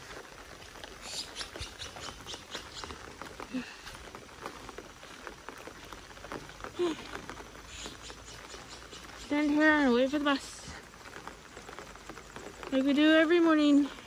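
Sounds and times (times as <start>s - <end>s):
raindrops tapping: 0.0s - 14.0s.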